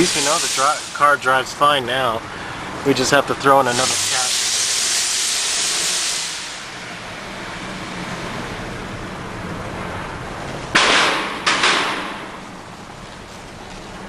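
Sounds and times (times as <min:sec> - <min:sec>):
engine and road noise: 0:00.0 - 0:14.0
exhaust hissing: 0:00.0 - 0:14.0.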